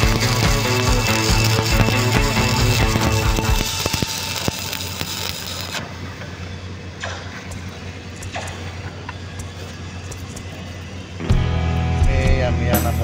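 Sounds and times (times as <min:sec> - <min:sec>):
welding arc crackling: 0:00.0 - 0:12.5
steady low hum: 0:00.0 - 0:13.0.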